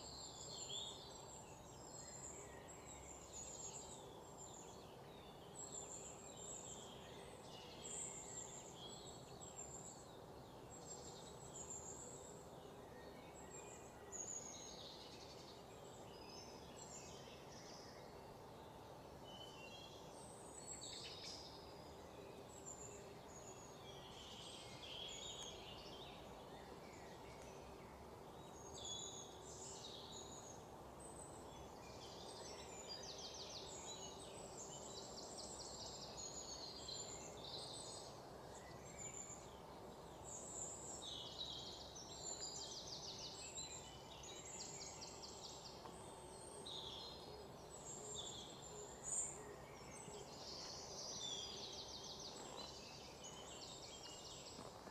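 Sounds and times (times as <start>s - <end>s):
small birds chirping and trilling: 0.0s - 54.9s.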